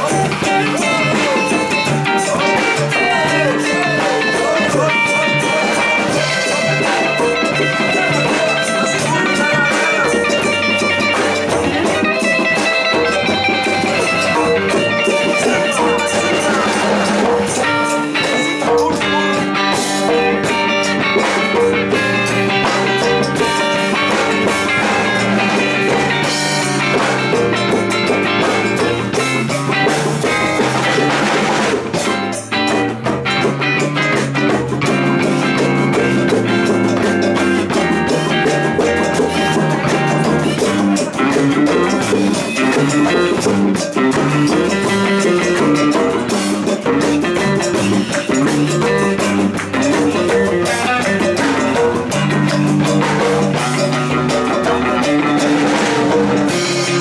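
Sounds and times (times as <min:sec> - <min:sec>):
djembe drums: 0:00.0 - 0:57.0
electric guitars playing: 0:00.0 - 0:57.0.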